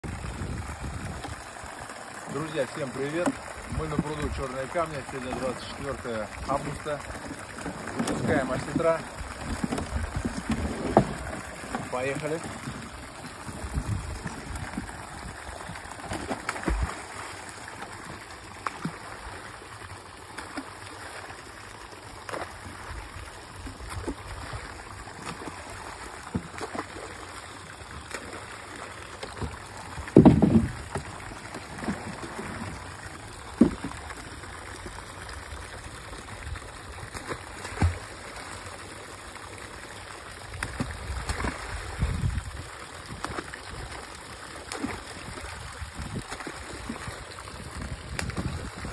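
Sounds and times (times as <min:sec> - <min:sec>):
fish splashing into water: 0:00.0 - 0:48.9
water pouring into pond: 0:00.0 - 0:48.9.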